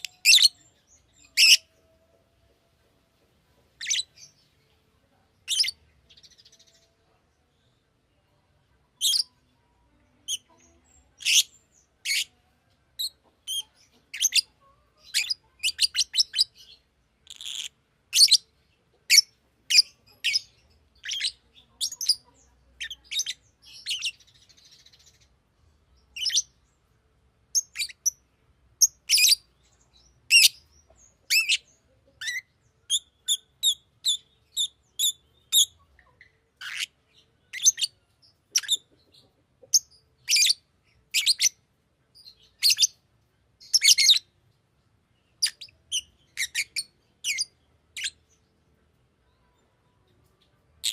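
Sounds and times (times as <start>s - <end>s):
lovebird chirping: 0.0s - 2.1s, 3.8s - 4.4s, 5.4s - 7.0s, 8.9s - 9.4s, 10.2s - 26.8s, 27.5s - 28.2s, 28.8s - 41.6s, 42.2s - 43.0s, 43.6s - 44.4s, 45.1s - 48.5s, 49.2s - 50.9s.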